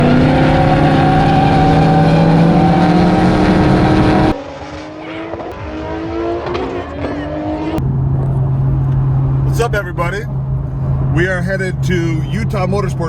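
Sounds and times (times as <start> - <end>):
car engine revving high: 0.0 - 13.0
engine accelerating: 0.0 - 13.0.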